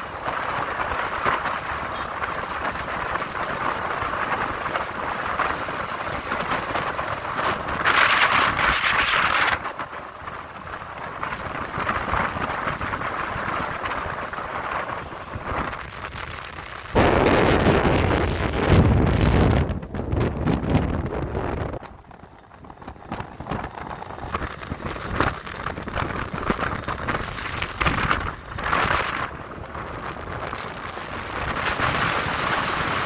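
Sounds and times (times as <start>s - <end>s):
low wind buffeting: 0.0s - 33.0s
road and engine noise: 0.0s - 33.0s
wind rushing over microphone: 0.0s - 33.0s.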